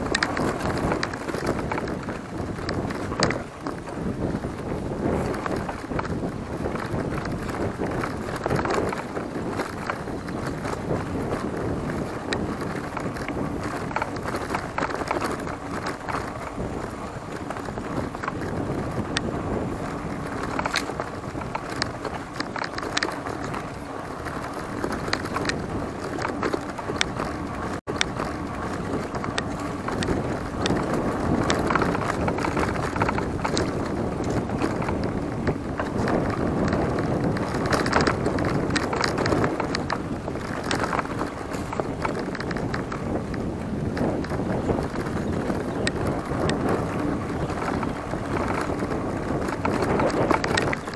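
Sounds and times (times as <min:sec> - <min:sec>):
bike clicks and rattles: 0:00.0 - 0:50.9
bike tyre and wind noise: 0:00.0 - 0:50.9.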